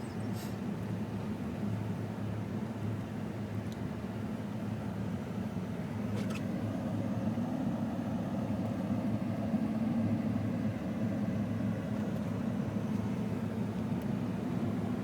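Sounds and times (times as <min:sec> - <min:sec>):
engine hum inside truck cab: 0:00.0 - 0:15.0.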